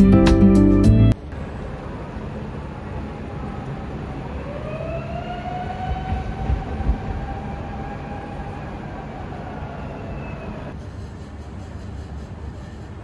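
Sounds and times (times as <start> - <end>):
train wheels rumbling on rail: 1.3 - 13.0.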